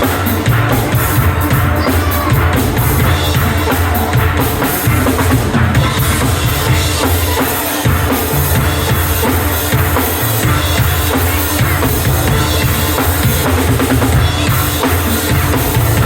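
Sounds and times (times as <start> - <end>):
drum kit beat: 0.0 - 16.0
steel pans playing: 0.0 - 16.0.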